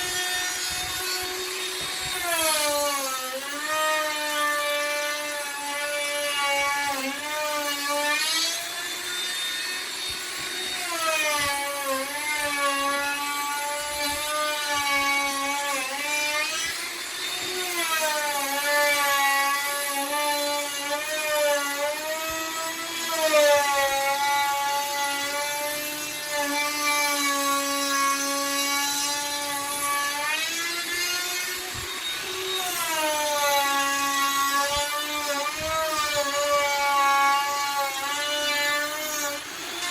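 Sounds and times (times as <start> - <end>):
electric router carving wood: 0.0 - 39.9.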